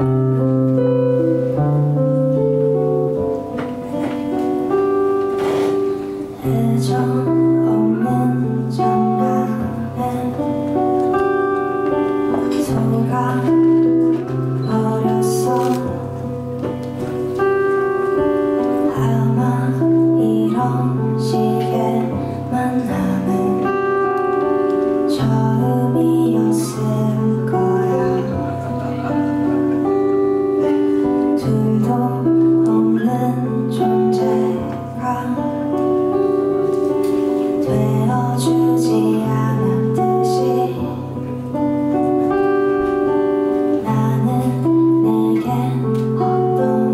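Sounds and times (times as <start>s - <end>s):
acoustic guitar chords: 0.0s - 46.9s
woman singing: 5.5s - 46.9s.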